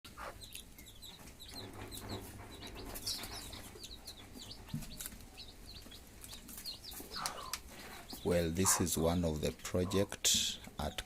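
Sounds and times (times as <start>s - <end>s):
chicks peeping: 0.1s - 11.0s
hen clucking: 0.1s - 11.0s.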